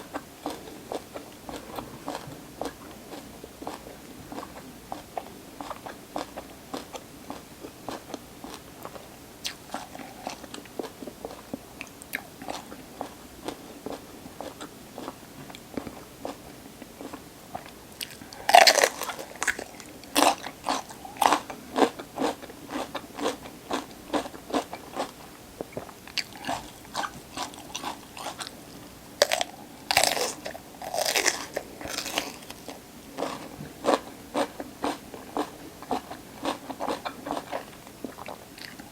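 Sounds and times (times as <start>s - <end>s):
chewing crisp raw vegetables: 0.0s - 38.9s.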